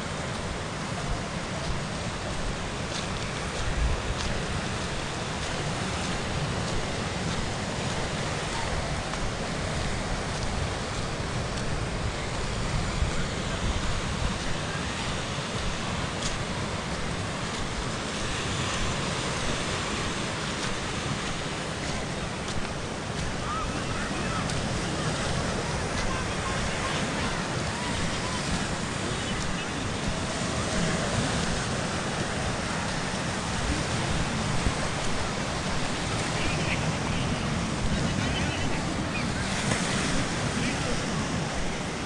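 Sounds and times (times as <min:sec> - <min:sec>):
surf breaking on rocky shore: 0:00.0 - 0:42.0
wind rumbling on microphone: 0:00.0 - 0:42.0.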